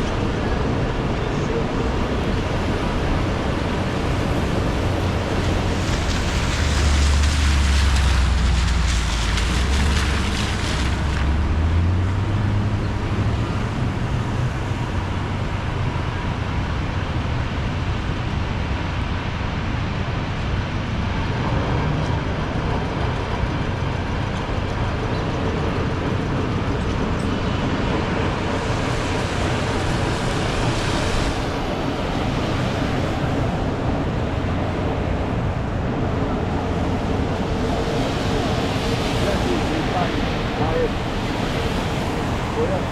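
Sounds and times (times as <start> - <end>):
heavy engine low drone: 0.0 - 42.9
vehicles passing with tyre hiss: 0.0 - 42.9.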